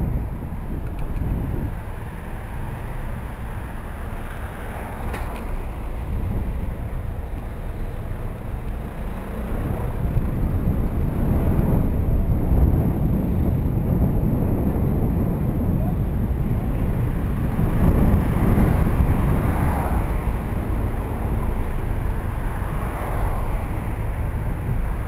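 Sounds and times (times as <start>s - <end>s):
rumbling wind noise: 0.0s - 25.0s
street traffic: 0.0s - 25.0s.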